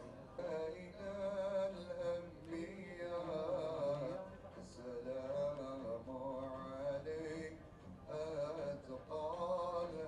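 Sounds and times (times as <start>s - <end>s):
man singing slow melody: 0.0s - 10.0s.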